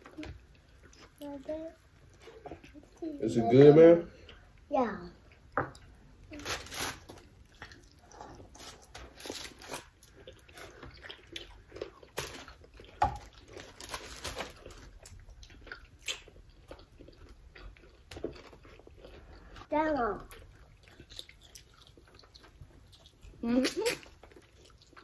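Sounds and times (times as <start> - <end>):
people chewing and smacking: 0.0 - 6.4, 7.0 - 25.0.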